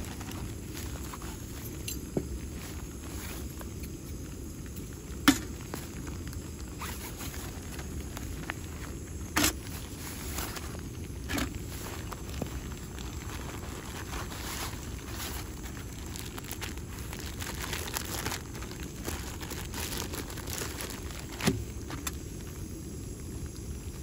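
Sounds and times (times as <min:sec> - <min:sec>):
light rain ticks and crackles: 0:00.0 - 0:24.0.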